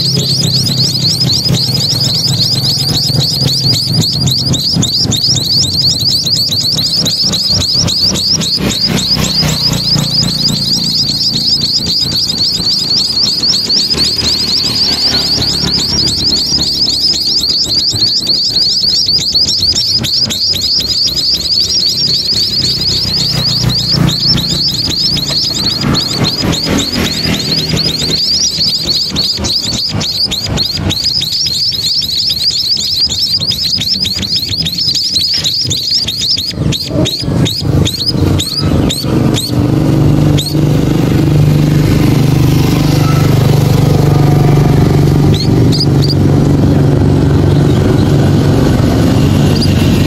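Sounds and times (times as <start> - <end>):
baby birds chirping rapidly: 0.0 - 50.0
low road traffic rumble: 0.0 - 50.0.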